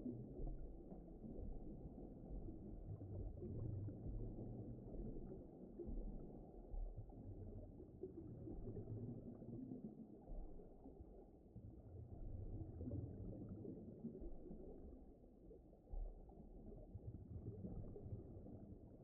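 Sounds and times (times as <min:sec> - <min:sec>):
muffled underwater rumbling: 0:00.0 - 0:19.0.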